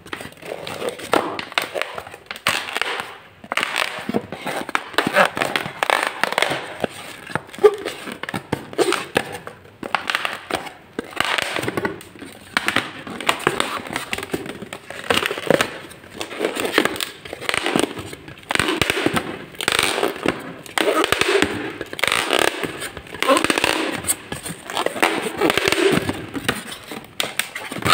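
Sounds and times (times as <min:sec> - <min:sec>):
balloons squeaking and crackling: 0:00.2 - 0:27.9.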